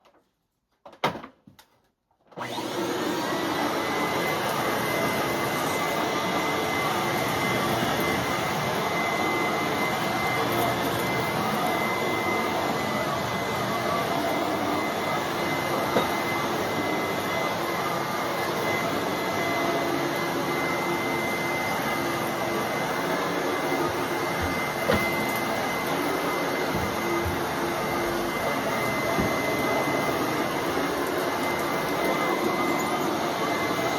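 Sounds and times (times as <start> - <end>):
vacuum cleaner running: 2.4 - 33.9.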